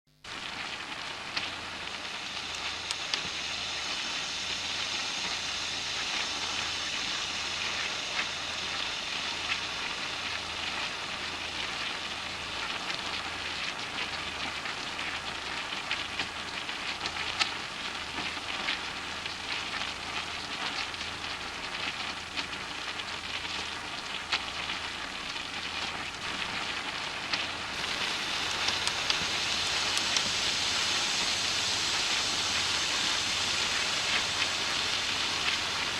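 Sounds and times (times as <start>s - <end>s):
food sizzling in hot oil: 0.2s - 35.9s.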